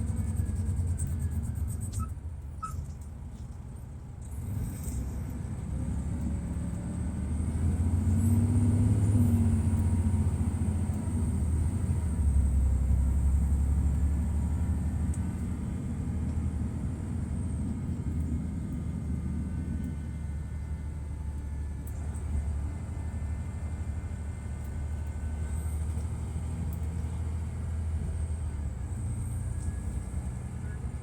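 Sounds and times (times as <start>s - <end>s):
coach diesel engine rumbling: 0.0s - 31.0s.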